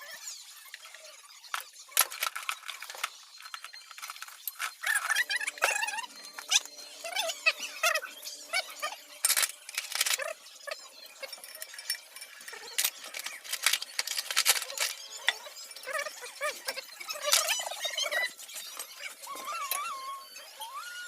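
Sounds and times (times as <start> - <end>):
metal tools clinking and clanking: 0.8 - 8.0, 8.6 - 19.9.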